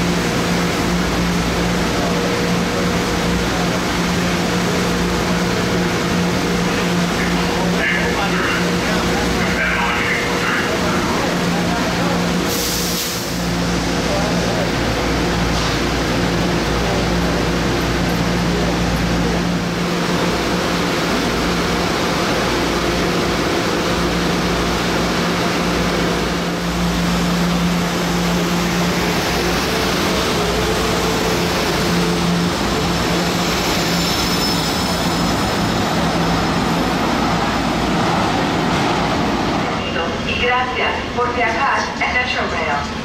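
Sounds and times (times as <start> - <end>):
train running with droning hum: 0.0 - 43.0.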